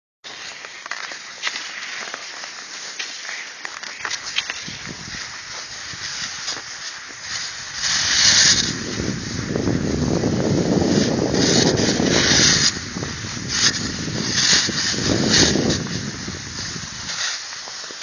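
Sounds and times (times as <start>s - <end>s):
skis swishing over snow: 0.2s - 18.0s.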